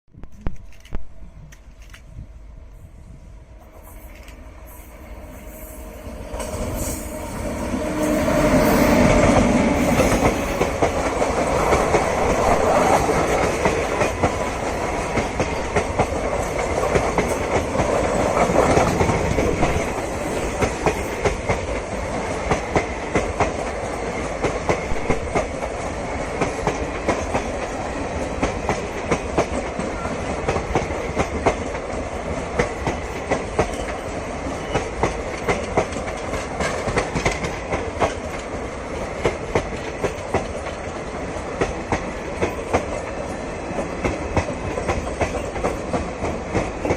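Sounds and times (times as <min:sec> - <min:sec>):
train rumbling past: 0:00.6 - 0:46.9.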